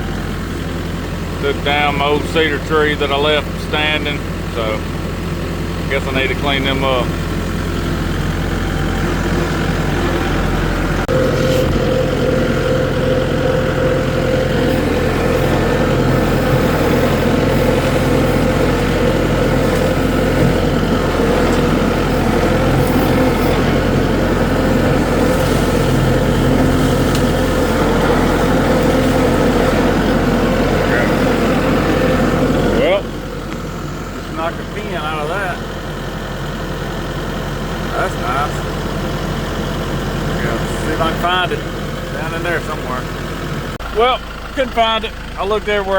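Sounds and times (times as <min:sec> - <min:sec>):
tractor engine revving: 0:00.0 - 0:45.9.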